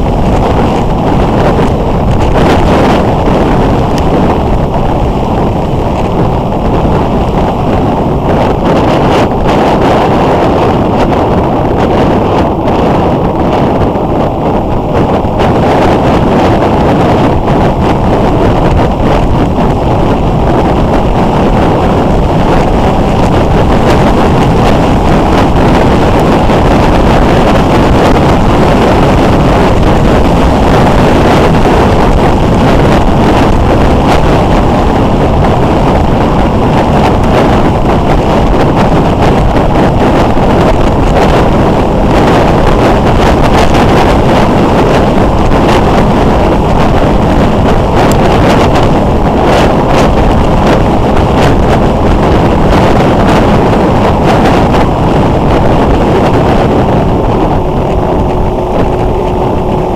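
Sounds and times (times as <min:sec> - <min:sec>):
motorcycle running: 0:00.0 - 0:59.9
wind rushing over microphone: 0:00.0 - 0:59.9.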